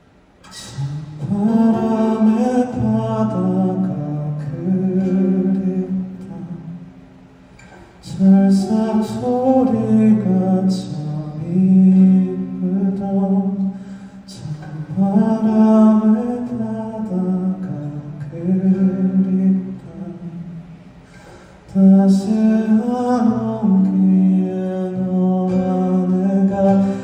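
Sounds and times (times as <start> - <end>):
man singing a slow song: 0.4 - 7.0, 8.0 - 20.8, 21.6 - 27.0.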